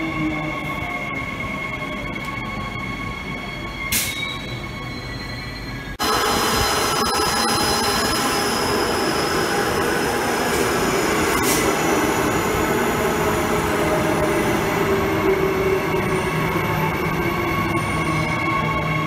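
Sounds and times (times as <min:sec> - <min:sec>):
high-pitched whining tones: 0:00.0 - 0:19.0.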